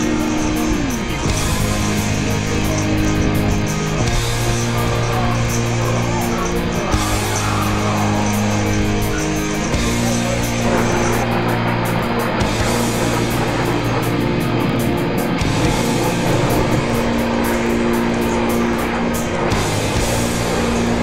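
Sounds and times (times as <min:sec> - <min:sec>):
rock guitar chords: 0:00.0 - 0:21.0
steady drum beat: 0:00.0 - 0:21.0.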